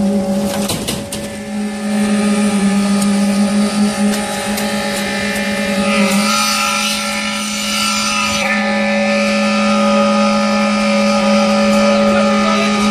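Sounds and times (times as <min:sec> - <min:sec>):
concrete pump machinery drone: 0:00.0 - 0:12.9.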